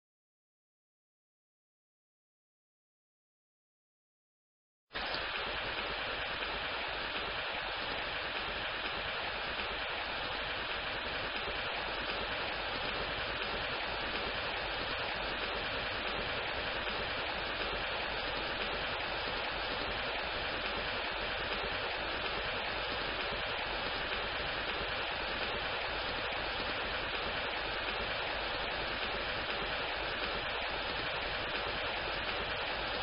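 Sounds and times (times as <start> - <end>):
falling rain hiss: 5.0 - 33.0.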